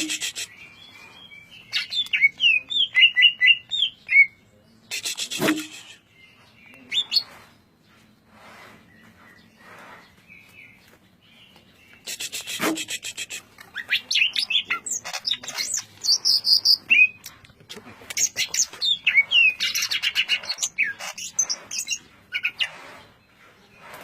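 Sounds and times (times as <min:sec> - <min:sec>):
bird song chatter: 0:00.0 - 0:24.0.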